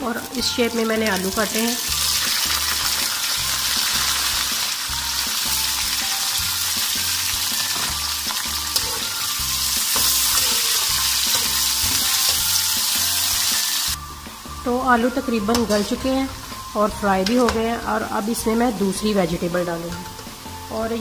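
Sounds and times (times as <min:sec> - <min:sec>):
potatoes sizzling in hot oil: 0:00.0 - 0:21.0.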